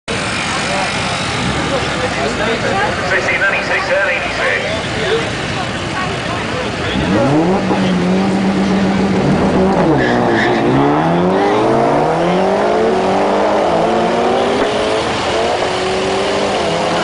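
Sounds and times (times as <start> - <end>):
racing engine revving: 0.1 - 17.0.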